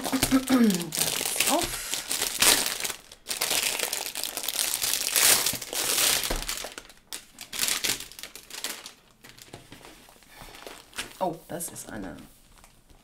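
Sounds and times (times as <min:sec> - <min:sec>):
plastic film crinkling: 0:00.0 - 0:11.4.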